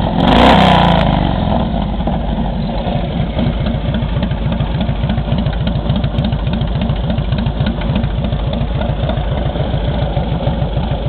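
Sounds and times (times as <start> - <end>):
motorcycle engine idling: 0.9 - 11.0.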